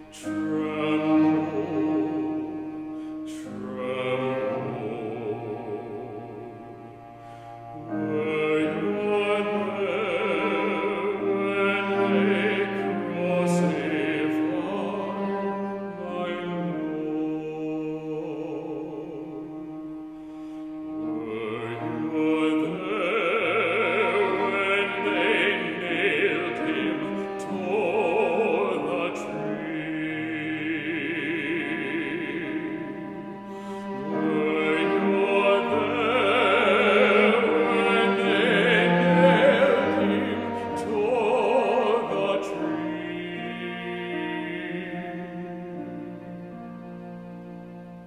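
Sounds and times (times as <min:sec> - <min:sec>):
man singing a hymn: 0:00.0 - 0:06.9, 0:07.8 - 0:19.7, 0:21.0 - 0:47.5.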